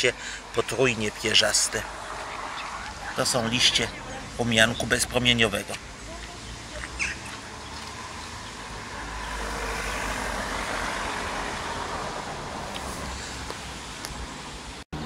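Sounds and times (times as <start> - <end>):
low traffic rumble: 0.0 - 15.0
vehicle passing: 1.1 - 15.0.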